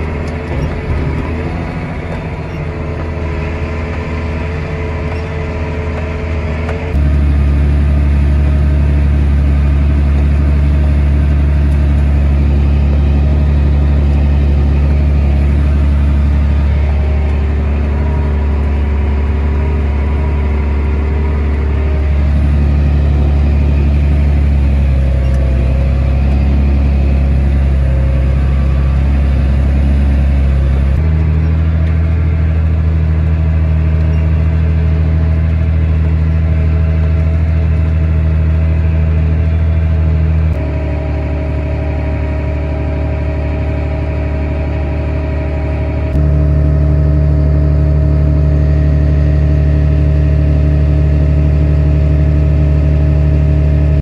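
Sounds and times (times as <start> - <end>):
grain auger running: 0.0 - 37.1, 40.5 - 54.0
heavy diesel machinery drone: 0.0 - 54.0.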